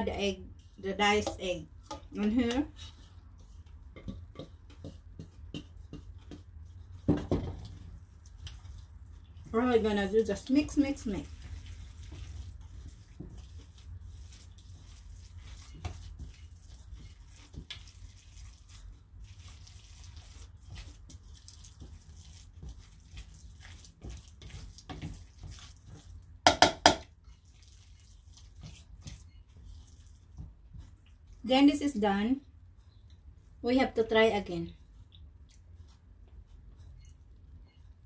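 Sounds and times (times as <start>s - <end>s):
wet squishing and scraping in bowl: 0.0s - 38.0s.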